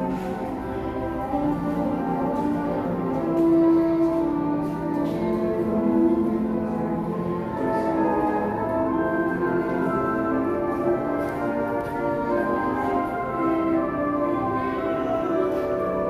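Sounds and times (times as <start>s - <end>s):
orchestral music with brass: 0.0s - 16.0s.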